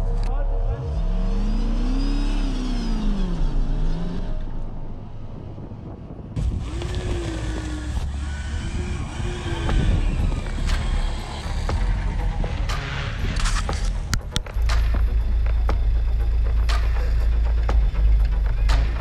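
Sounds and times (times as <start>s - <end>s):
off-road vehicle engine revving: 0.0s - 5.3s, 6.4s - 19.0s.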